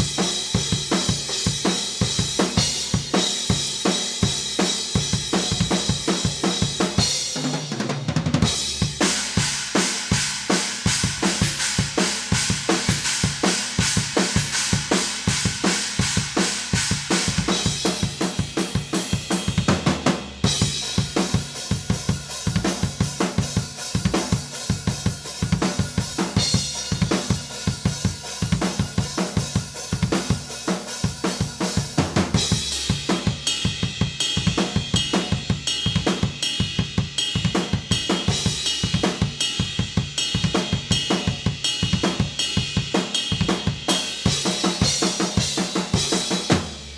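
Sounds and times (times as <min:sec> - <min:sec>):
drum kit playing a groove: 0:00.0 - 0:46.9.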